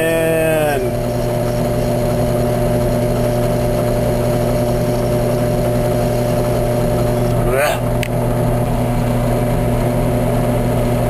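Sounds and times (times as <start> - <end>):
drill press motor running: 0.0 - 11.0.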